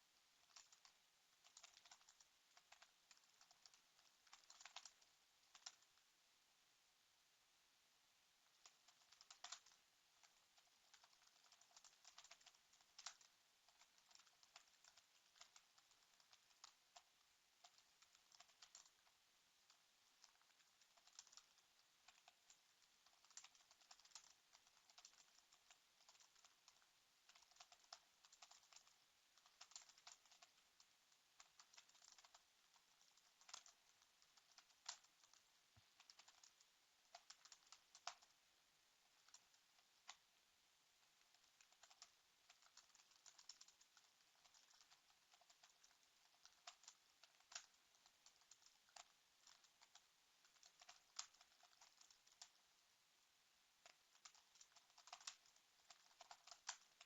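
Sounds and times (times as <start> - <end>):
typing on computer keyboard: 0.4 - 6.0, 8.5 - 38.4, 39.1 - 40.3, 41.2 - 52.6, 53.8 - 57.0.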